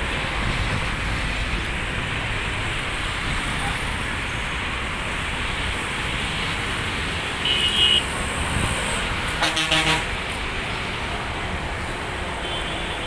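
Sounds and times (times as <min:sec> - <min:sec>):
engine and traffic noise: 0:00.0 - 0:13.0.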